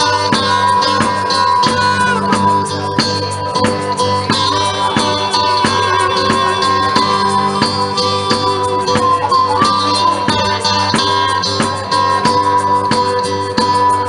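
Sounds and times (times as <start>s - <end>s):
blues band playing: 0.0s - 14.0s
guitar lead: 0.0s - 14.0s.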